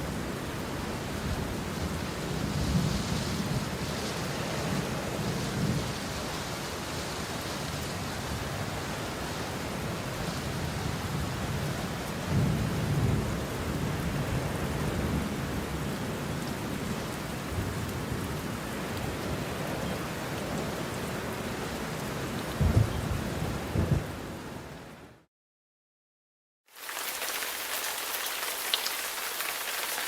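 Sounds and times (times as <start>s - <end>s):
steady rain: 0.0s - 25.3s, 26.7s - 30.0s.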